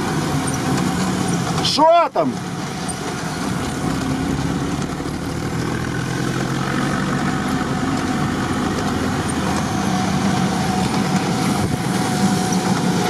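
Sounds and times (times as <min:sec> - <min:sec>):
tyres hissing on wet road: 0:00.0 - 0:13.0
vehicle engine running: 0:00.0 - 0:13.0.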